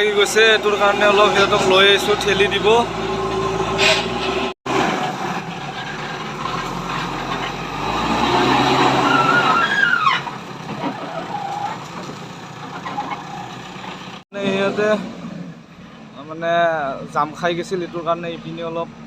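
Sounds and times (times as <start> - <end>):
diesel engine running under load: 0.0 - 9.1, 9.7 - 16.4.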